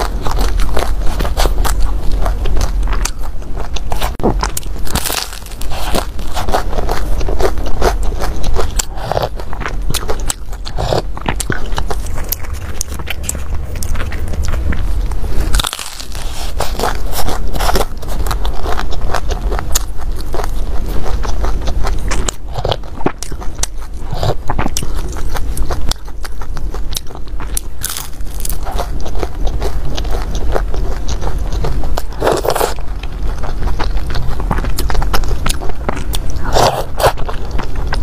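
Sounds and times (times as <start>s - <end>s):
chewing with crunches: 0.0s - 38.0s.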